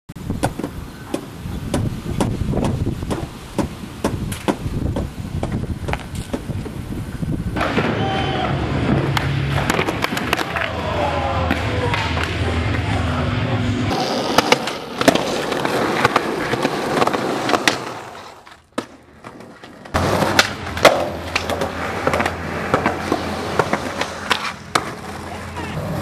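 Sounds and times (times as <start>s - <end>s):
skateboard wheels rolling on concrete: 0.1s - 26.0s
skateboard clacks: 0.3s - 6.9s, 7.6s - 12.9s, 13.9s - 25.9s.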